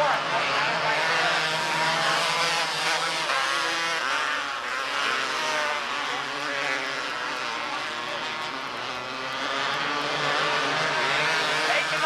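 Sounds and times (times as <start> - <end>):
race car engines at speed: 0.0 - 12.0.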